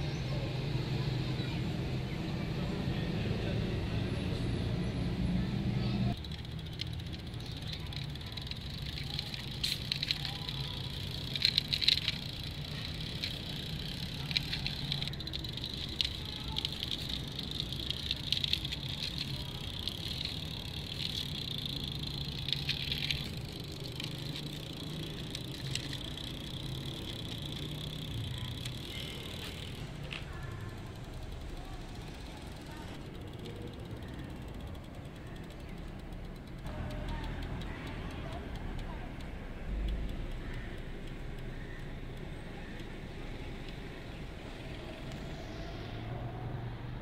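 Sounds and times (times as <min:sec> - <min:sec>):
toy car wheels rolling on concrete: 0:05.8 - 0:46.0
rattling clicks: 0:06.1 - 0:43.9.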